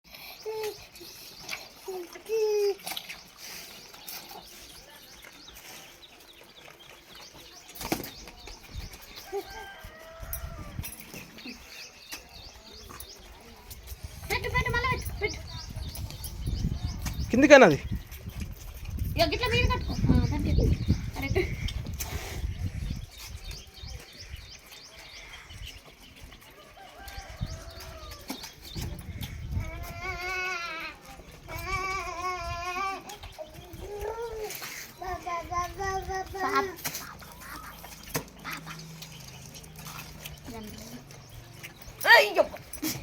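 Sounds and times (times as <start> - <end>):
small birds chirping: 0.1 - 43.0.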